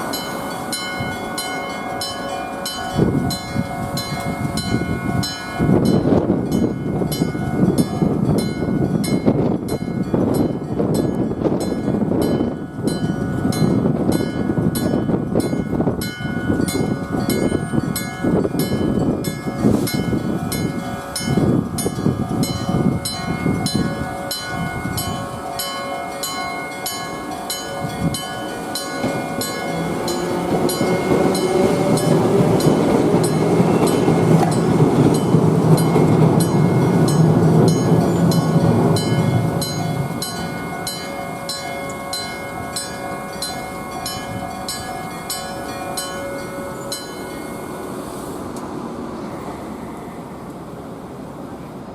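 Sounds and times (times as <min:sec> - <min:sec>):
train wheel clatter: 0:00.0 - 0:49.6.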